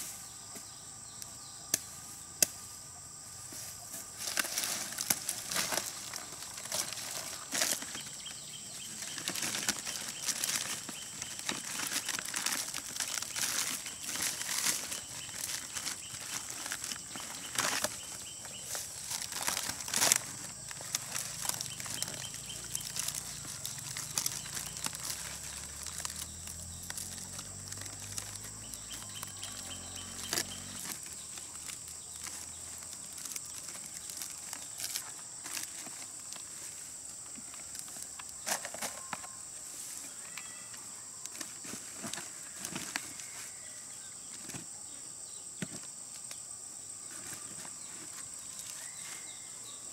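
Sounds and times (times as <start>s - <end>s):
palm leaves rustling: 0.0s - 44.8s, 45.6s - 49.9s.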